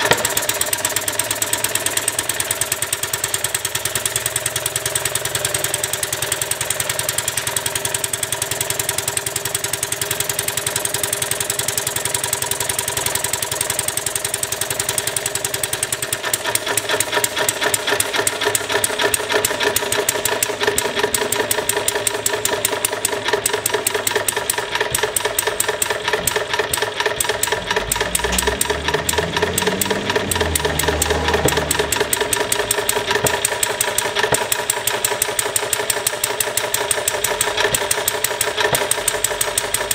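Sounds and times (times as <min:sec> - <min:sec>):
small model engine running fast: 0:00.0 - 0:39.9.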